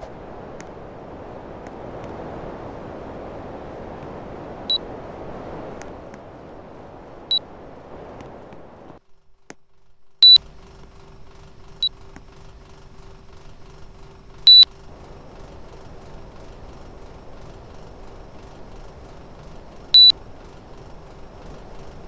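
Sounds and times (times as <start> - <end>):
air conditioner blowing: 0.0 - 8.9, 10.2 - 22.0
quiet steady hum: 0.0 - 22.0.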